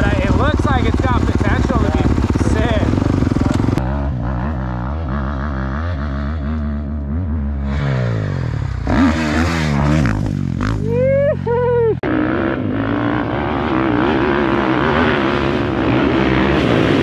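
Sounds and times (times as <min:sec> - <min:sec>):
dirt bike engines idling: 0:00.0 - 0:17.0.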